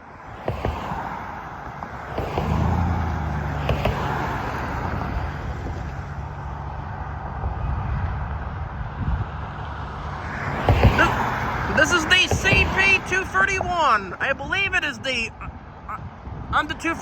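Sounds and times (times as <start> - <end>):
vehicle engine humming: 0.1 - 17.0.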